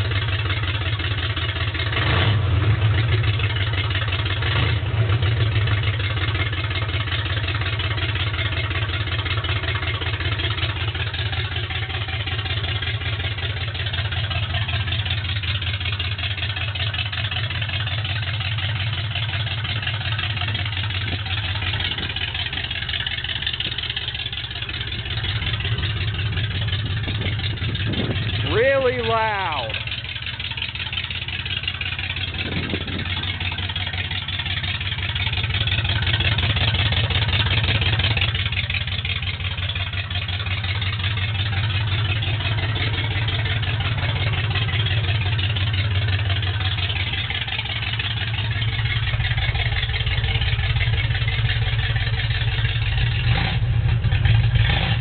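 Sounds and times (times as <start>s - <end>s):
rough engine idling: 0.0s - 55.0s.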